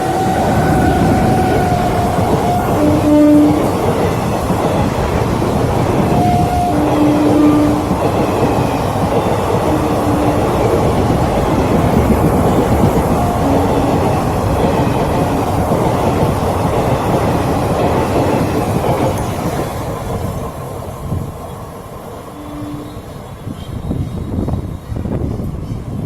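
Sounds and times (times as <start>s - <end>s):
train wheels clattering over rails: 0.0s - 22.2s.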